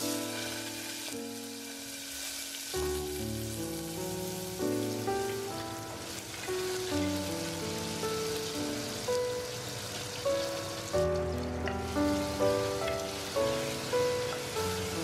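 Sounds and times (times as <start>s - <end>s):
background music: 0.0s - 15.0s
tomatoes sizzling in oil: 0.0s - 15.0s.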